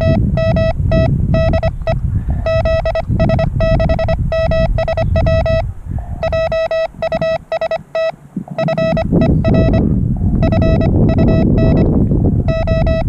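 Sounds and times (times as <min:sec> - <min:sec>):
low rumbling noise: 0:00.0 - 0:13.0
morse code tone: 0:00.0 - 0:13.0.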